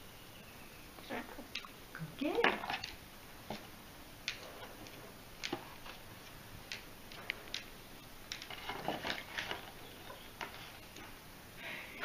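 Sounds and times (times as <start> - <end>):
beak working at cardboard box: 0.6 - 11.3.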